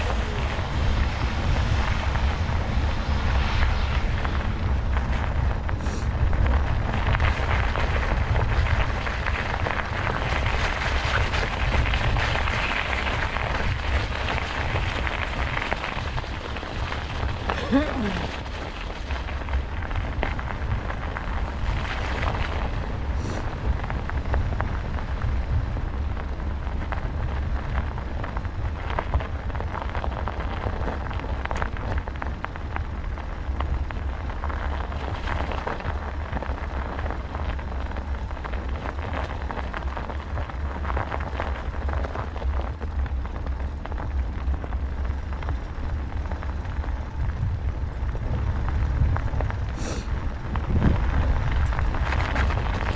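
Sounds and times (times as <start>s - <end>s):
tyres crackling on rough track: 0.0s - 52.9s
wind rumbling on microphone: 0.0s - 52.9s.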